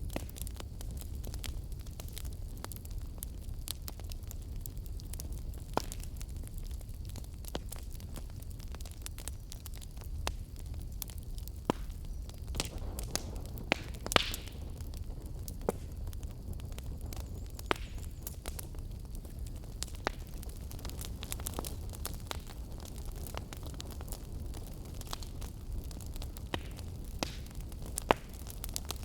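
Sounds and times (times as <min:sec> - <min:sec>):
low rumble of burning: 0:00.0 - 0:29.0
wood fire crackling and popping: 0:00.0 - 0:29.0.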